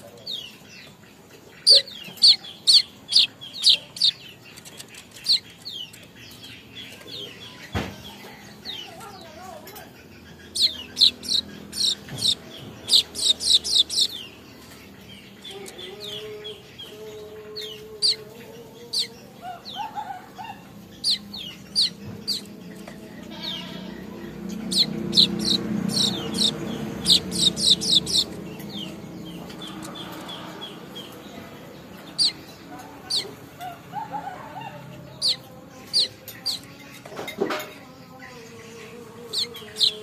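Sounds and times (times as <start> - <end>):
weaver birds chirping: 0.0 - 40.0.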